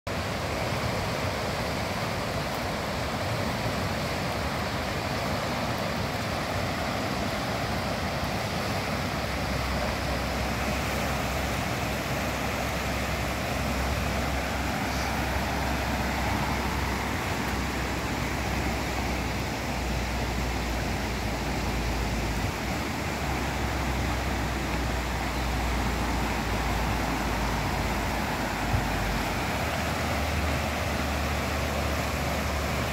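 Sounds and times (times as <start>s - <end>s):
river rushing: 0.1s - 32.9s.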